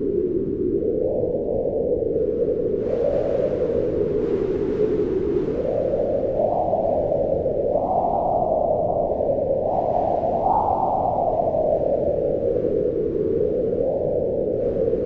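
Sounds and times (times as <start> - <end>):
wind howling: 0.0 - 15.0.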